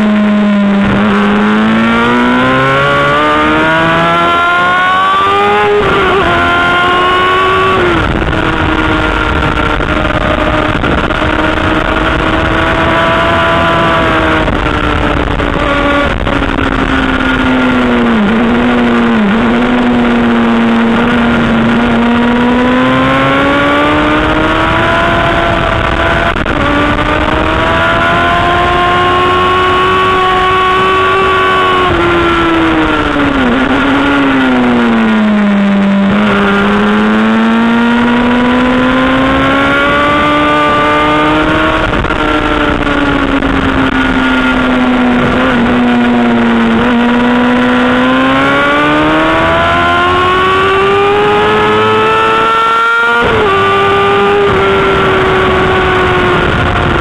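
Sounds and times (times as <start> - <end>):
high-pitched motorcycle engine: 0.0 - 57.0.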